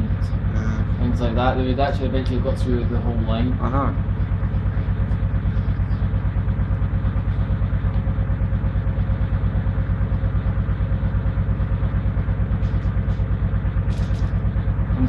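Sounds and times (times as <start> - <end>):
washing machine pulsing hum: 0.0 - 15.0.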